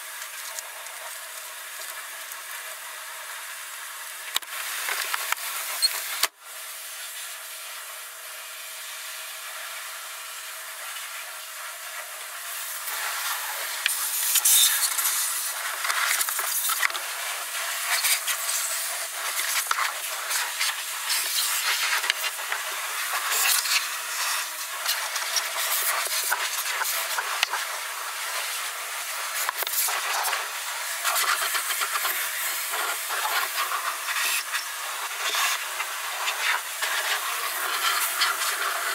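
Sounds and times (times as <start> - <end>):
water jets hissing on car underside: 0.0 - 38.9.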